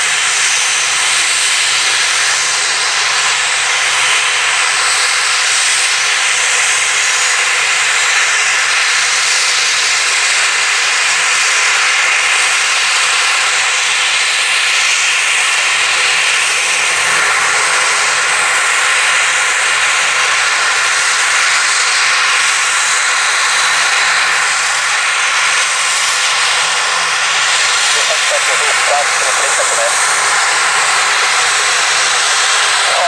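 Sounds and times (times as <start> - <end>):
aircraft engines running loudly: 0.0 - 33.0.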